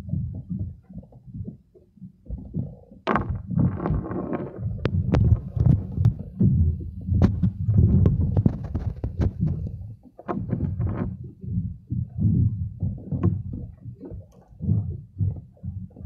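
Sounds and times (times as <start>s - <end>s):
wind buffeting microphone: 2.3s - 16.0s.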